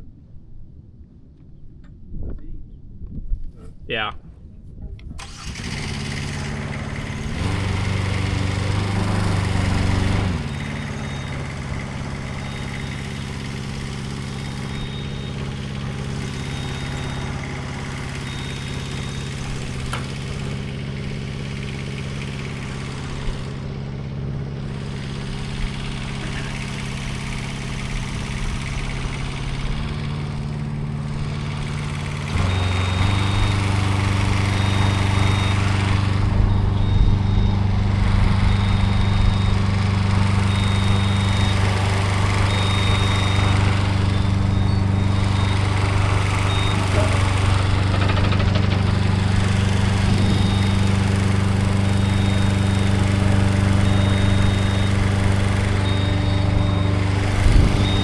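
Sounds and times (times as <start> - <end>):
aerial lift engine running: 5.2 - 58.0.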